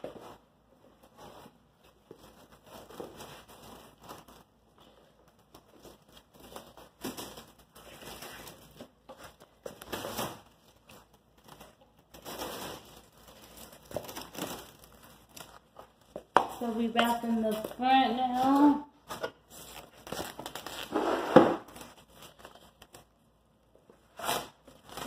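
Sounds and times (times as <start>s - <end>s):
plastic stretch wrap crinkling: 0.0s - 25.0s.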